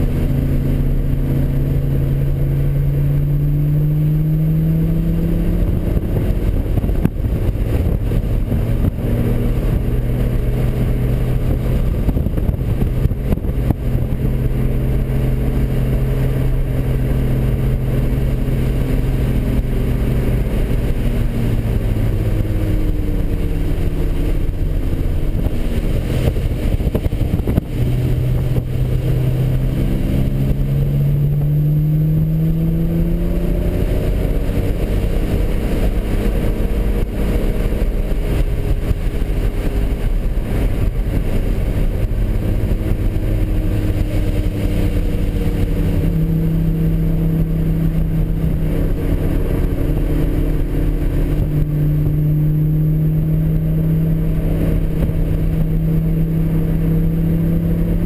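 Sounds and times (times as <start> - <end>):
car engine revving from cabin: 0.0 - 58.0.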